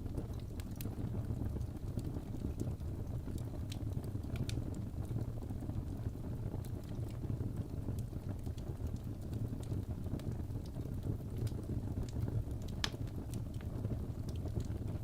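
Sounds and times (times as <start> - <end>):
logs crackling and popping: 0.0 - 15.0
rumble of flames: 0.0 - 15.0.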